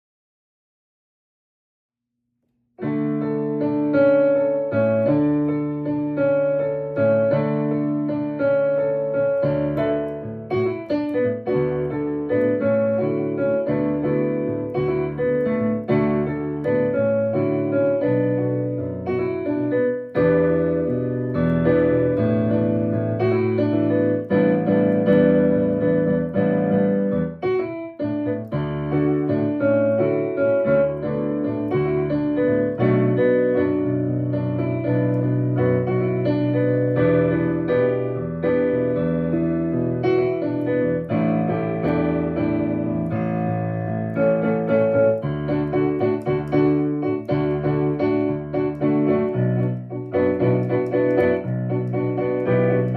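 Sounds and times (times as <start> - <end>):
solo piano playing chords: 2.8 - 52.9.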